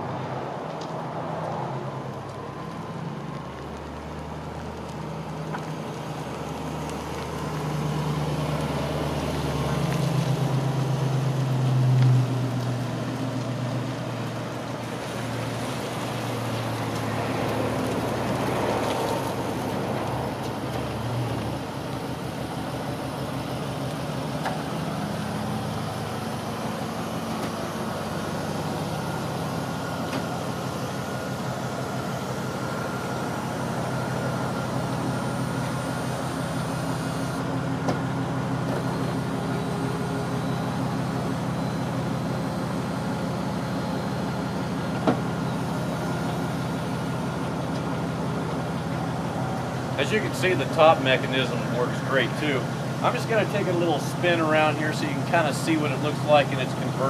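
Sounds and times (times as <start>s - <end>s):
truck engine driving slowly: 0.0s - 57.0s
engine idling: 2.0s - 57.0s.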